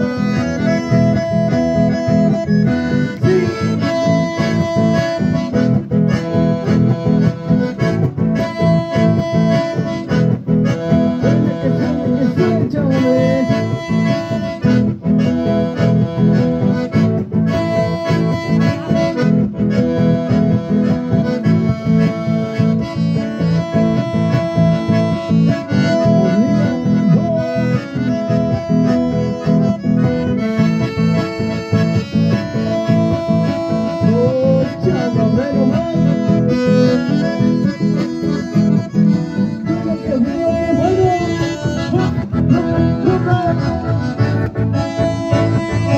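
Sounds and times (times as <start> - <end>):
acoustic guitar: 0.0 - 45.9
button accordion: 0.0 - 45.9.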